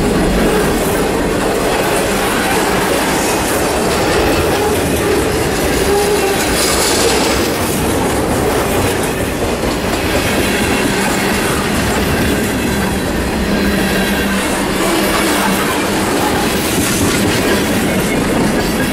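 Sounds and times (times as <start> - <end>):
freight train wheels rumbling: 0.0 - 18.9.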